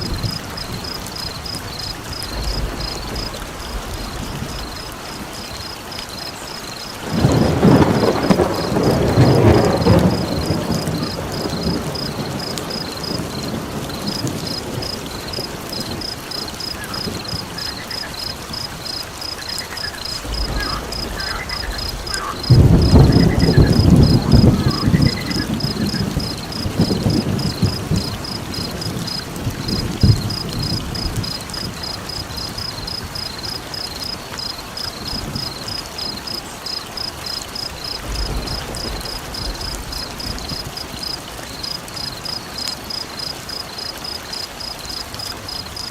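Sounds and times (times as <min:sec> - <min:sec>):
thunder rolling: 0:00.0 - 0:05.6, 0:07.0 - 0:33.8, 0:37.6 - 0:42.1
steady rain: 0:00.0 - 0:45.9.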